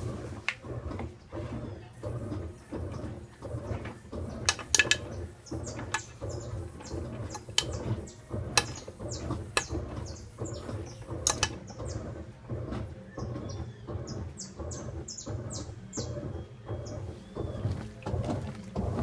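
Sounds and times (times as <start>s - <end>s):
washing machine motor hum: 0.0s - 19.0s
water and clothes sloshing: 0.0s - 19.0s.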